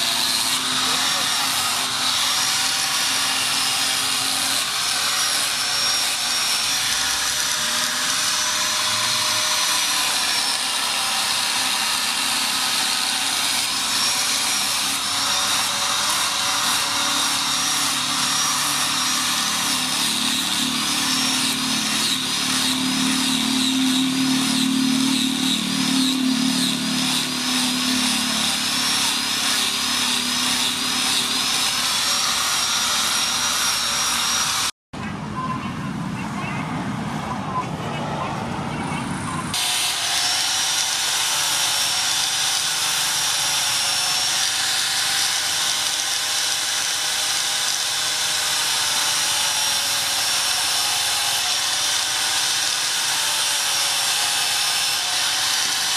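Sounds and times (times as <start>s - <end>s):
angle grinder grinding steel: 0.0s - 34.8s, 39.2s - 55.9s.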